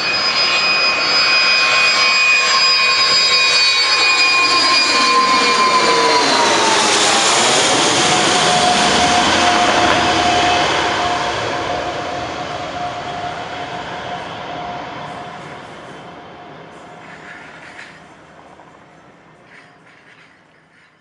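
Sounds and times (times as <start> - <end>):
jet airliner passing: 0.0 - 21.0.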